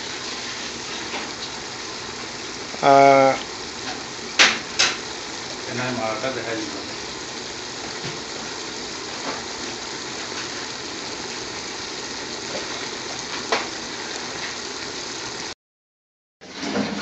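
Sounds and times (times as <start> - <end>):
peppers sizzling in oil: 0.0 - 15.6.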